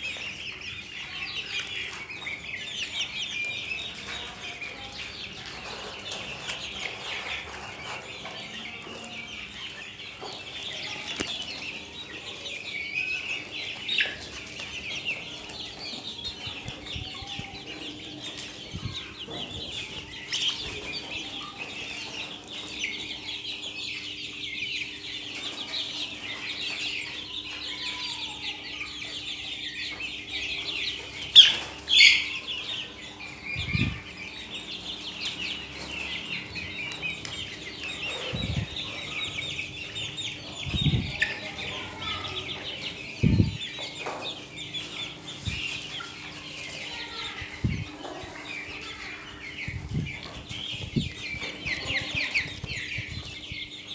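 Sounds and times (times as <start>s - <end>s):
chickens clucking and calling: 0.0s - 53.9s.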